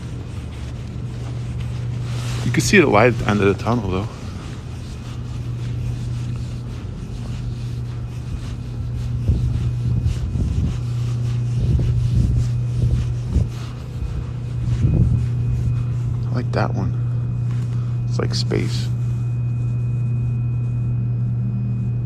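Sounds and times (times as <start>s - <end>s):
low hum in road tunnel: 0.0s - 22.0s.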